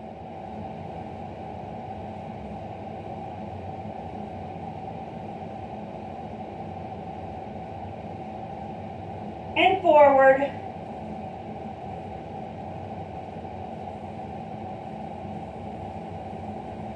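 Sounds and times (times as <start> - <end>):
background hiss and hum: 0.0 - 16.9.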